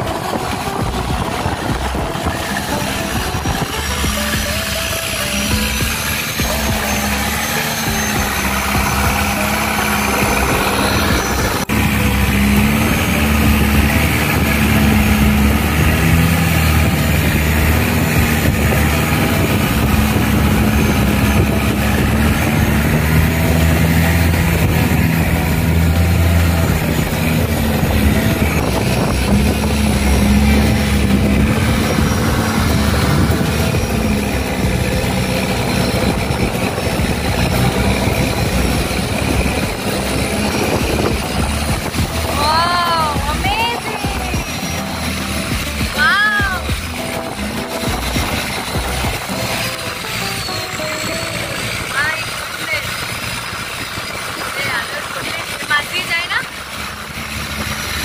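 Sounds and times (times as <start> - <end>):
boat engine droning: 0.0 - 58.0
rushing water: 0.0 - 58.0
wind: 0.0 - 58.0.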